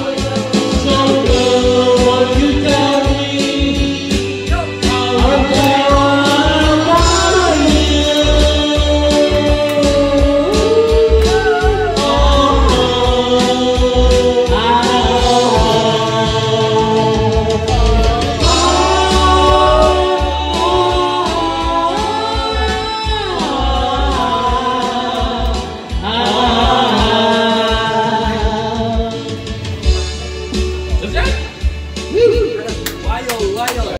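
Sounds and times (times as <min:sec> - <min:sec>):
men singing karaoke: 0:00.0 - 0:31.1
music backing track: 0:00.0 - 0:33.9.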